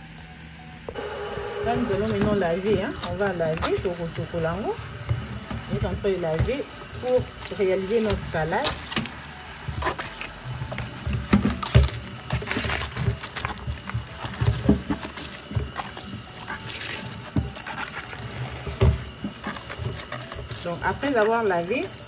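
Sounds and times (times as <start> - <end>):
knocks and handling noises: 0.9 - 21.4
tap water running: 0.9 - 22.0
hands rubbing wet leaves: 1.0 - 22.0.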